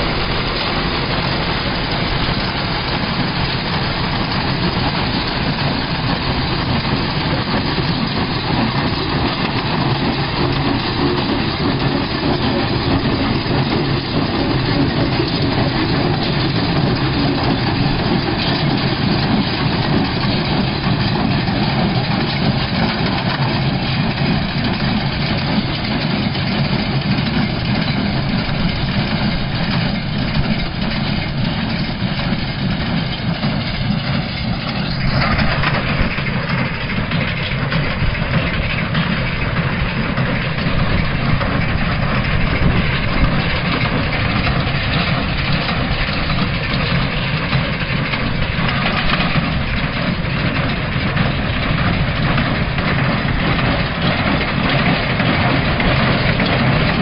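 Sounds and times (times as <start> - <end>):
baler mechanical din: 0.0 - 57.0
tractor engine running: 0.0 - 57.0.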